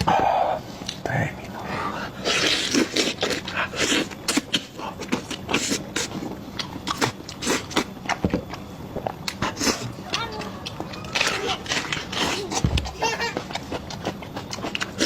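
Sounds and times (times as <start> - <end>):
wet chewing and crunching: 2.2 - 15.0.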